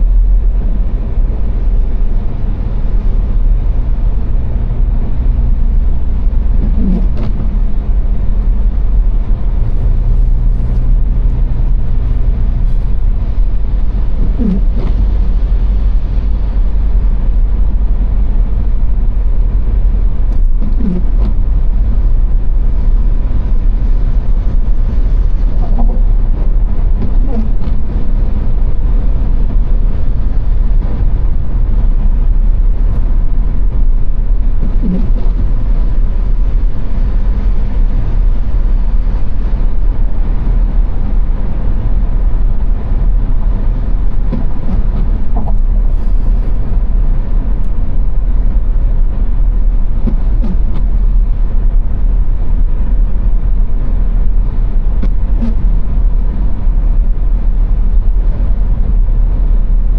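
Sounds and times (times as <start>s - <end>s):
car driving at speed: 0.0s - 59.9s.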